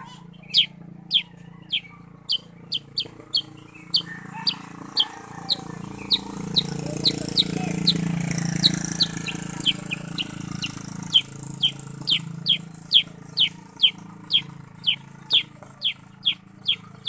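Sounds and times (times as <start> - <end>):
bulbul calling sharp notes: 0.0 - 17.0.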